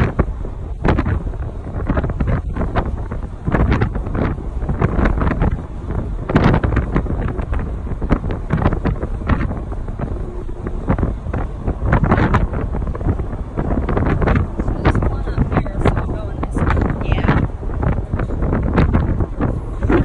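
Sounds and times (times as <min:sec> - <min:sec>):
steady low rumble: 0:00.0 - 0:20.0
wind buffeting microphone: 0:00.0 - 0:20.0.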